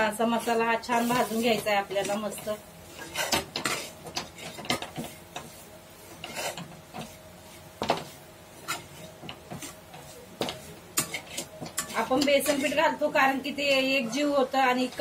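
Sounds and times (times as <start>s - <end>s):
metal spatula scraping a pan: 0.0s - 15.0s.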